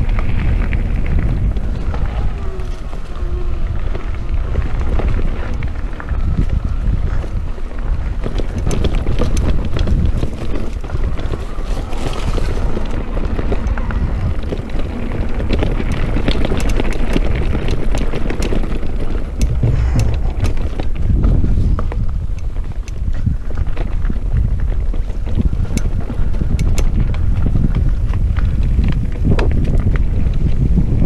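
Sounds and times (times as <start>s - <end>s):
bike clicks and rattles: 0.0s - 31.0s
tyres rumbling over dirt: 0.0s - 31.0s
wind buffeting microphone: 0.0s - 31.0s.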